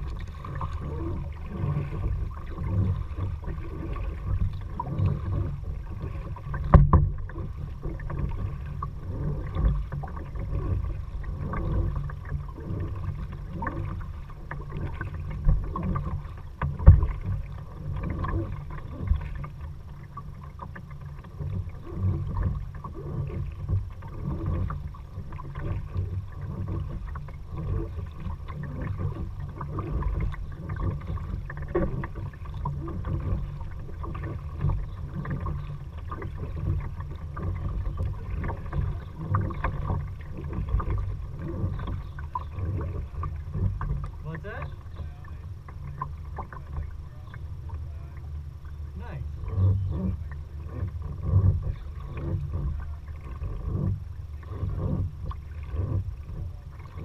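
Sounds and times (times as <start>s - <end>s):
low rumble: 0.0s - 57.0s
paddle splashing in water: 0.0s - 57.0s.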